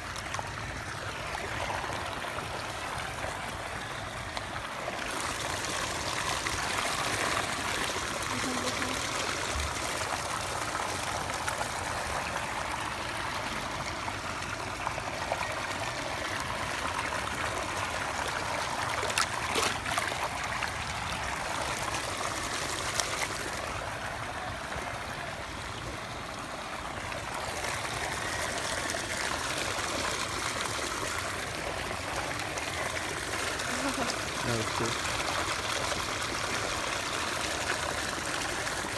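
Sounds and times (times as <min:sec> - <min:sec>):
water running and splashing: 0:00.0 - 0:38.9.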